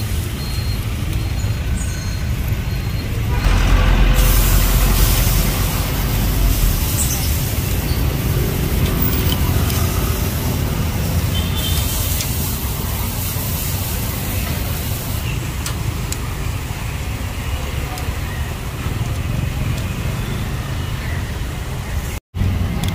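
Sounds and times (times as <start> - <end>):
street traffic rumble: 0.0 - 22.9.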